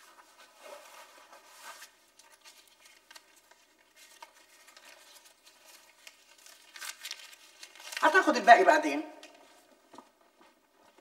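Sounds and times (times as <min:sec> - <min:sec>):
paper banknotes rustling: 0:00.0 - 0:08.8.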